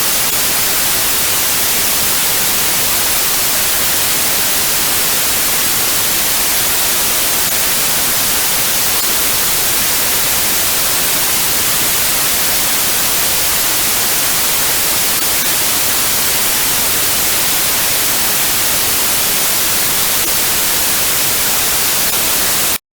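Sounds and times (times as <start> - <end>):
white noise hiss: 0.0 - 22.8.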